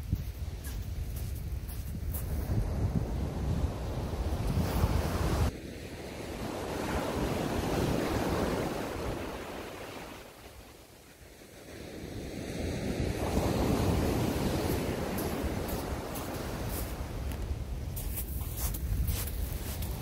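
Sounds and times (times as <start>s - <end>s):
wind buffeting microphone: 0.0s - 10.1s, 11.7s - 20.0s
surf breaking on beach: 2.5s - 10.6s, 11.7s - 20.0s.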